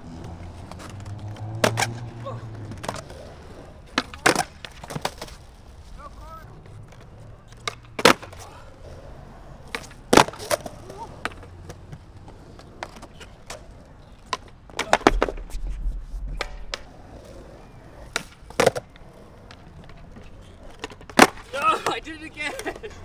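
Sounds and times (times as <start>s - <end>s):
skateboard clacks: 0.0s - 15.6s, 16.3s - 23.0s
wheels rolling over concrete: 0.0s - 23.0s.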